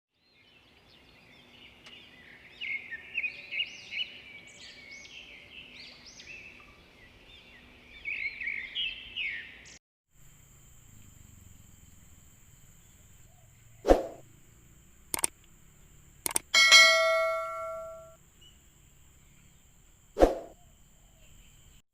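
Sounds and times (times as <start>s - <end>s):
faint background noise: 0.2s - 21.8s.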